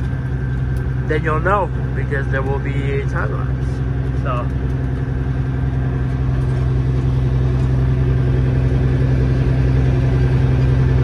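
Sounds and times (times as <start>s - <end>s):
diesel truck engine driving: 0.0s - 11.0s.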